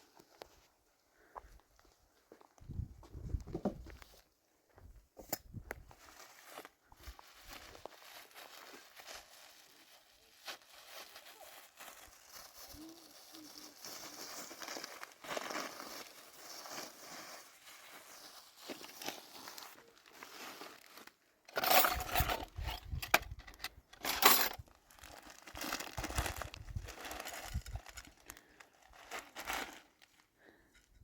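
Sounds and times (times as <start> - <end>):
rustling crinkling noise: 0.0 - 30.8.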